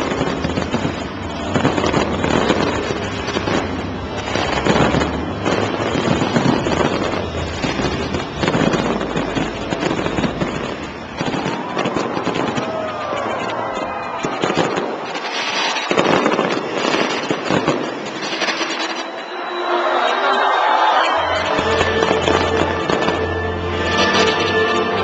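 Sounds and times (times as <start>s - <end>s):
fireworks banging and crackling: 0.0s - 19.5s, 20.6s - 25.0s
crowd voices: 0.0s - 25.0s.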